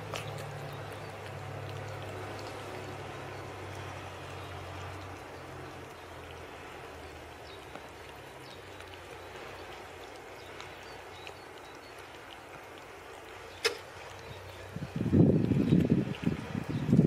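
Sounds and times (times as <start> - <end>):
cats chewing: 0.0 - 17.0.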